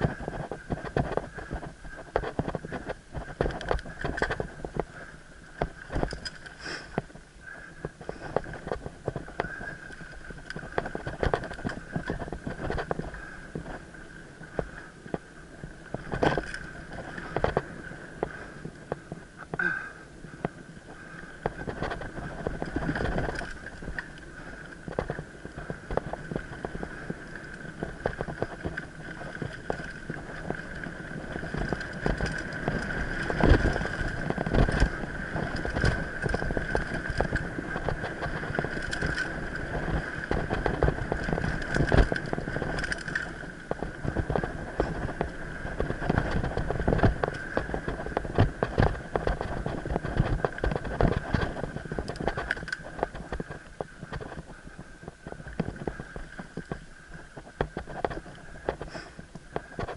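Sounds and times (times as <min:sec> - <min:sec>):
mountain bike rattling over roots: 0:00.0 - 0:19.8, 0:20.5 - 0:59.9.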